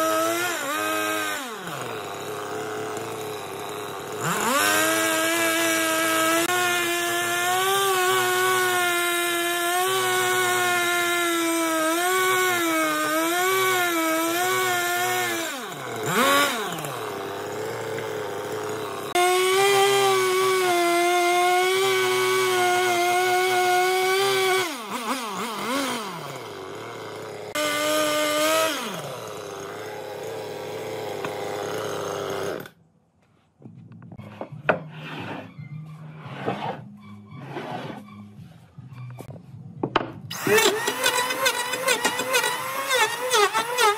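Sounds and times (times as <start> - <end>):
chainsaw cutting log: 0.0 - 32.8, 40.3 - 43.9.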